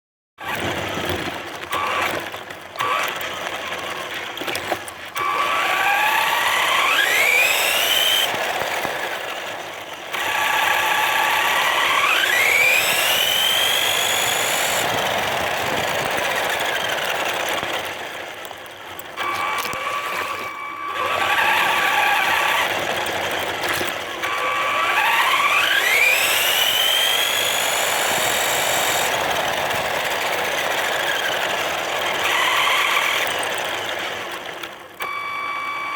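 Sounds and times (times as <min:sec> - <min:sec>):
electric motor and gearbox whining: 0:00.4 - 0:35.9.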